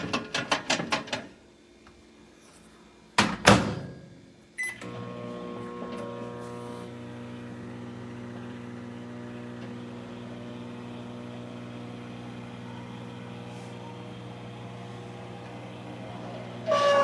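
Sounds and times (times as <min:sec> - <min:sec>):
microwave oven humming: 0:03.2 - 0:17.0.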